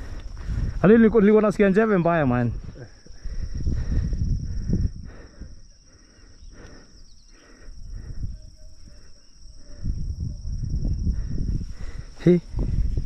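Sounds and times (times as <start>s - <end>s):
high insect trilling: 0.2s - 13.0s.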